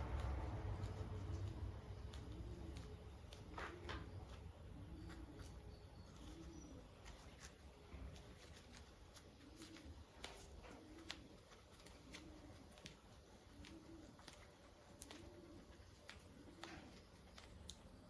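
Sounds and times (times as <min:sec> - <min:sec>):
faint pigeon cooing: 0:00.0 - 0:18.0.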